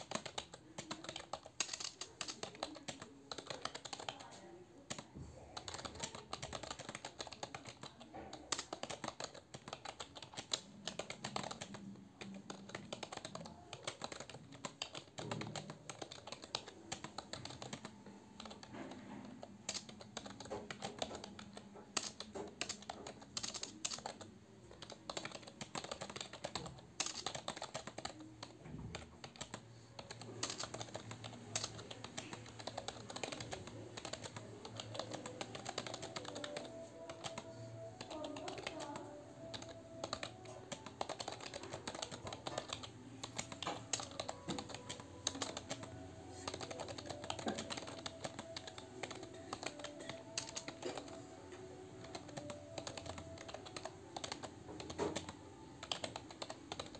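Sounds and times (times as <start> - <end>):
typing on computer keyboard: 0.0 - 56.9.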